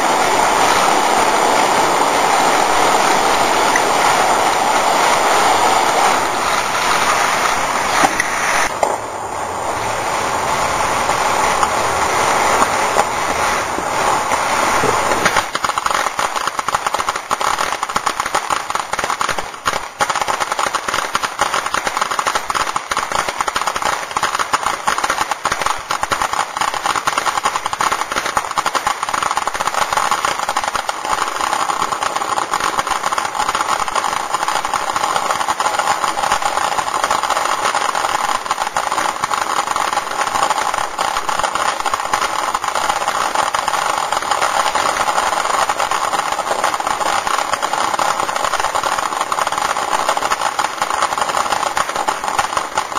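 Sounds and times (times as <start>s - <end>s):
fireworks crackling: 0.0s - 52.9s.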